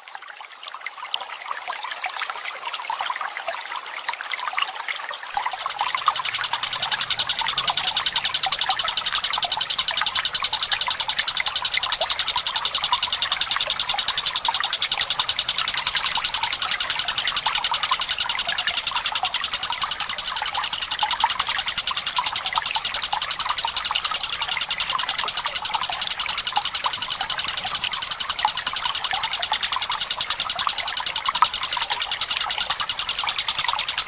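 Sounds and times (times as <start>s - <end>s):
water trickling and splashing: 0.0s - 34.0s
bird's rapid rolling trill: 5.4s - 34.0s.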